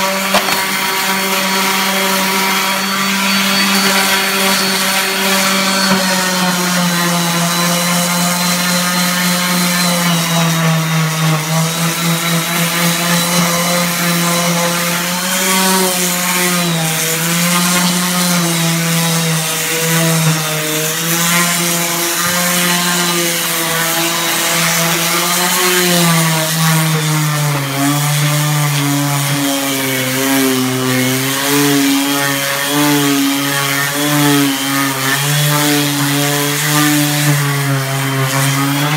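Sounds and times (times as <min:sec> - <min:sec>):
orbital sander on wood: 0:00.0 - 0:38.9.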